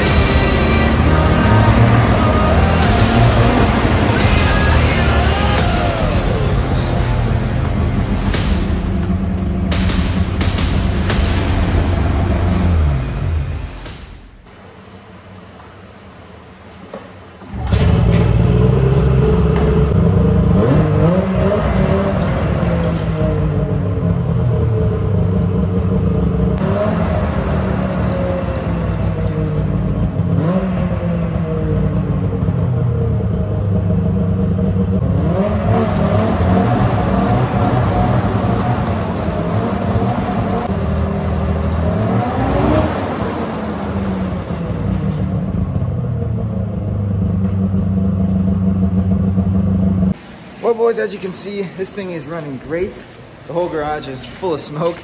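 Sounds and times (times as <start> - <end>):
snowmobile engine revving: 0.0 - 13.9, 17.5 - 50.8.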